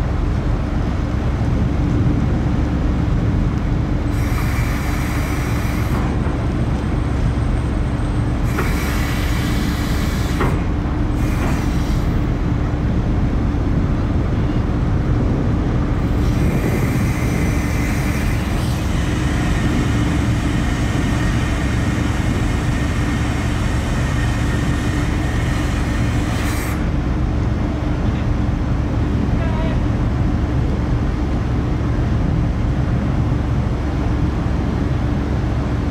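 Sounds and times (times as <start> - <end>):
ship engines rumbling: 0.0 - 35.9
wind and water hiss: 0.0 - 35.9.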